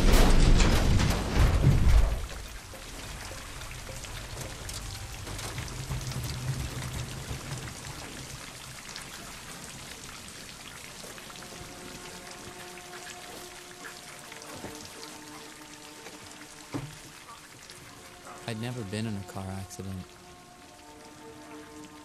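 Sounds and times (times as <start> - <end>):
rain falling on a car: 0.0 - 22.0.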